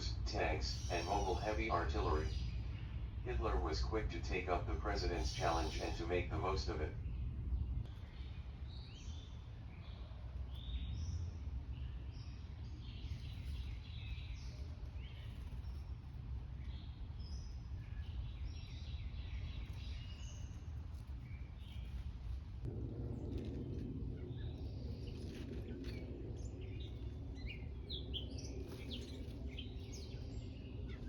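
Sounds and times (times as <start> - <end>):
small birds chirping: 0.0 - 22.5, 24.1 - 31.0
steady low rumble: 0.0 - 31.0.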